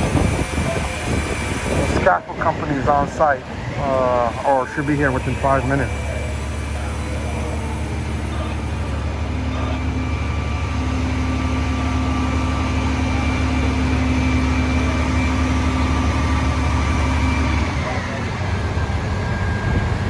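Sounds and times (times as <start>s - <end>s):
heavy vehicle engine running: 0.0s - 20.0s
steady hum: 0.0s - 20.0s
street noise: 0.0s - 20.0s.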